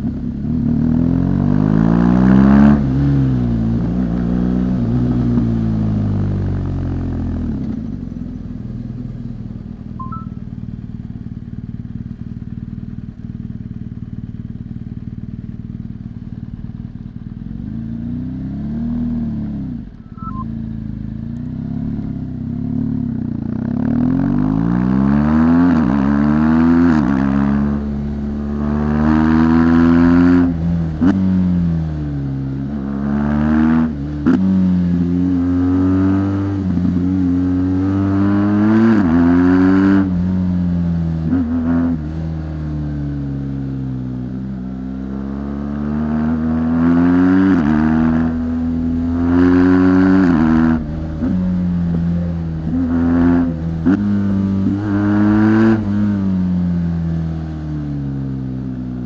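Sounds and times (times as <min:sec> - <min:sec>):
motorcycle engine revving through gears: 0:00.0 - 0:59.0.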